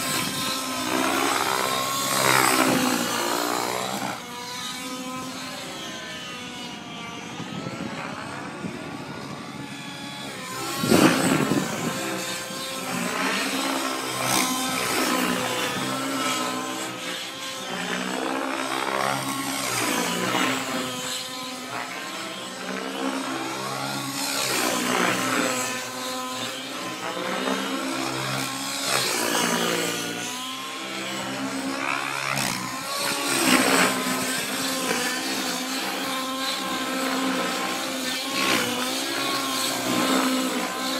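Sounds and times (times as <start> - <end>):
model helicopter engine revving: 0.0 - 40.9.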